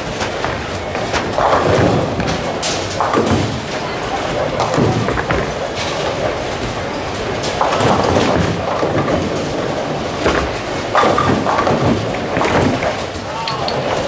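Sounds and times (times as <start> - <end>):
bowling balls rolling: 0.0 - 14.0
bowling pins crashing: 0.1 - 14.0.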